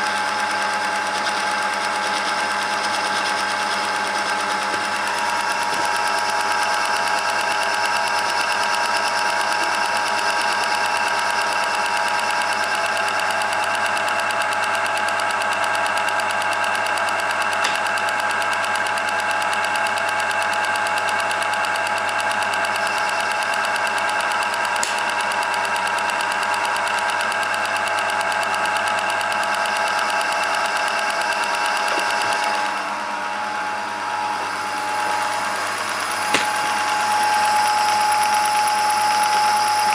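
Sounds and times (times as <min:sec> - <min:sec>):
metal lathe whirring: 0:00.0 - 0:39.9.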